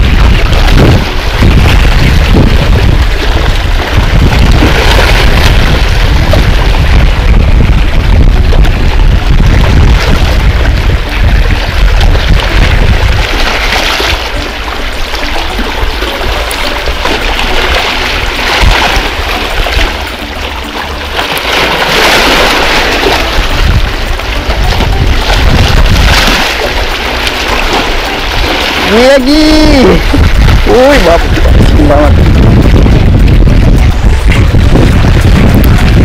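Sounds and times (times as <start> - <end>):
sea waves splashing against rocks: 0.0 - 36.0
wind rumble on microphone: 0.0 - 36.0.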